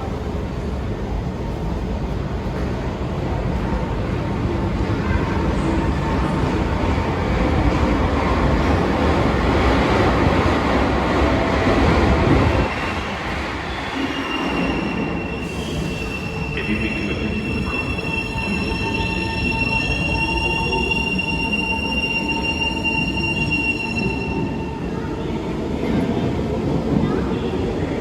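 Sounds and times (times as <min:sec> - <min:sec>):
metro train rumbling: 0:00.0 - 0:28.0.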